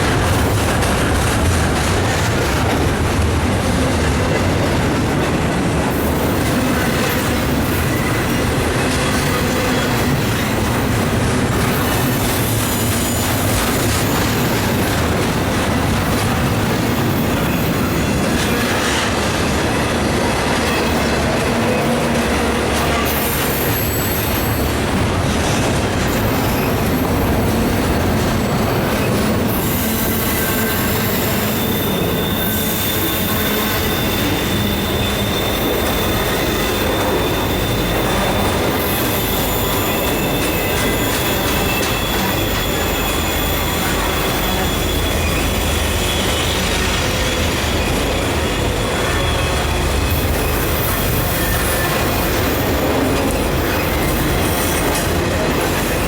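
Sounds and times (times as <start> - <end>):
train wheels rumbling on rail: 0.0 - 56.0
high wheel squeal: 5.9 - 15.4, 16.0 - 56.0.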